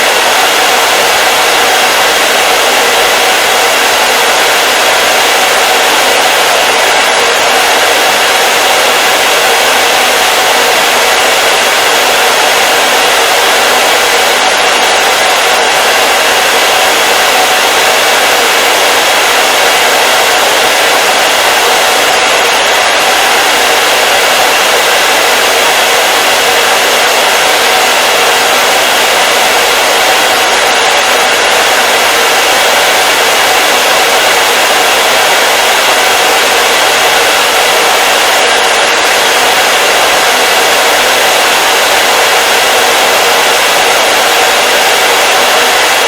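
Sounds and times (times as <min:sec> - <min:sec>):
hair dryer blowing air: 0:00.0 - 0:46.0.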